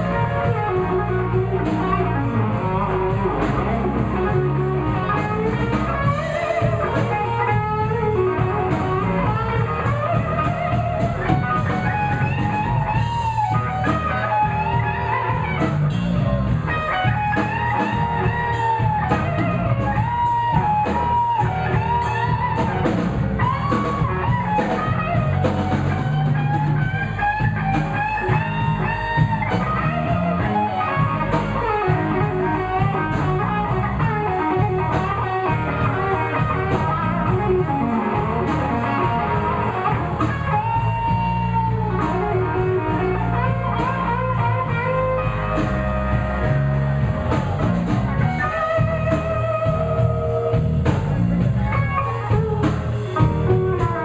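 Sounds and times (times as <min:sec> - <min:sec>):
blues band playing: 0:00.0 - 0:54.0.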